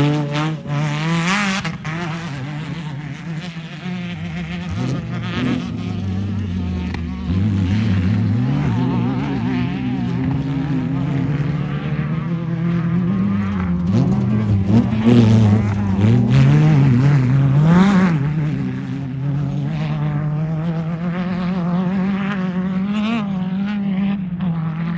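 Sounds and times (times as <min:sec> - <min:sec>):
race car engine revving: 0:00.0 - 0:24.9.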